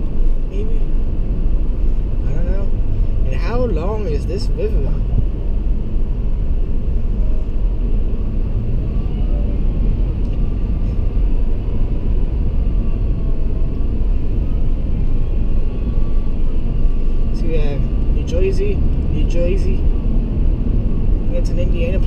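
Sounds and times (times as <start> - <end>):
car engine low rumble: 0.0 - 22.0
road noise inside car: 0.0 - 22.0.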